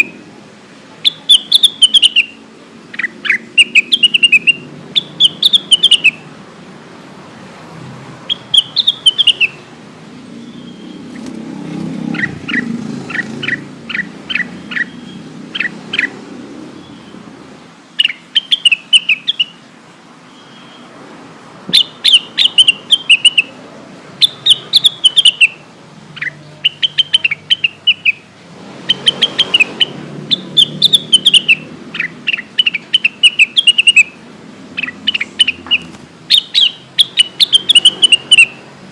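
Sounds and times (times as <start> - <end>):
bird singing high chirps: 1.0 - 6.3, 8.3 - 9.6, 10.3 - 11.3, 12.0 - 17.2, 18.0 - 21.0, 21.7 - 23.6, 24.2 - 38.7.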